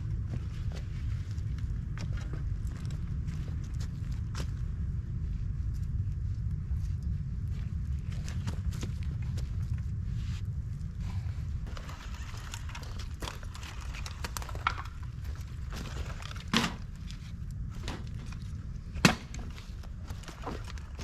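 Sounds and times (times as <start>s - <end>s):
steady low rumble: 0.0s - 21.0s
twigs crackling in fire: 0.8s - 21.0s.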